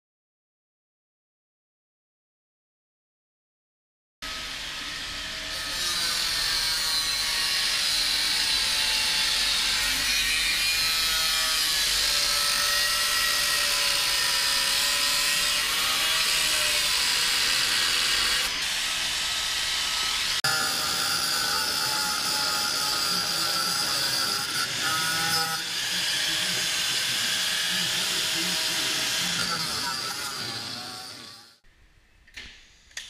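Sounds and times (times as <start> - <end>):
angle grinder cutting steel: 4.2 - 31.6.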